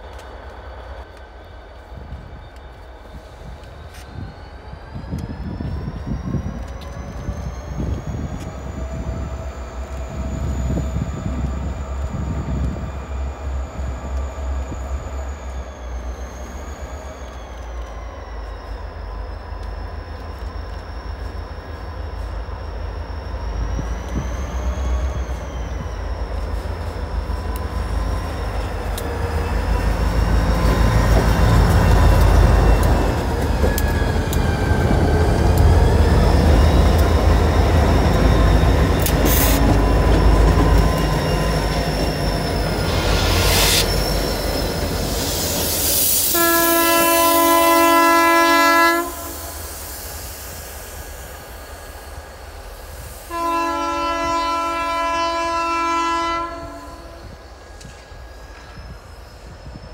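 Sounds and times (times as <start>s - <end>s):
deep train rumble: 0.0s - 59.9s
whining locomotive engines: 0.0s - 59.9s.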